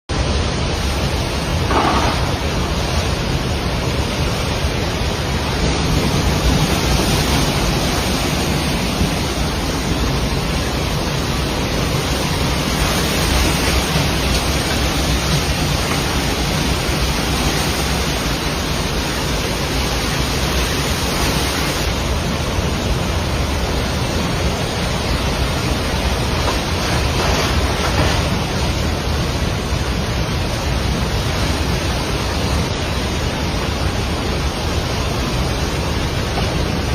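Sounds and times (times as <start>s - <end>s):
river water rushing: 0.1s - 36.9s.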